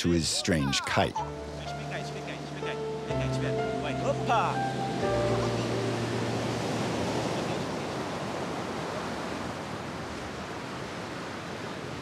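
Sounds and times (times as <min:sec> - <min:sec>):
ocean surf: 0:00.0 - 0:12.0
wind: 0:00.0 - 0:12.0.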